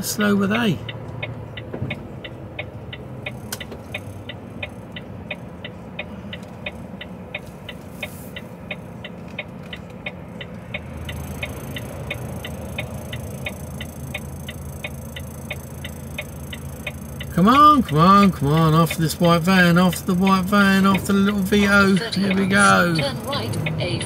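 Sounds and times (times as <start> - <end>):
diesel engine idling: 0.0 - 24.0
traffic passing rumble: 0.0 - 24.0
turn signal ticking: 0.0 - 24.0.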